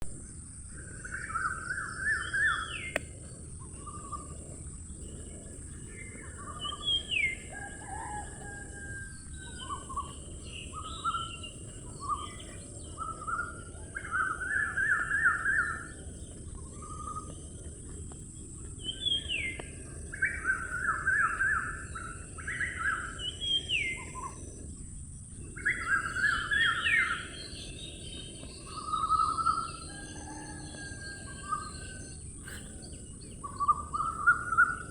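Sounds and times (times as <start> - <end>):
songbirds calling: 0.1 - 34.9.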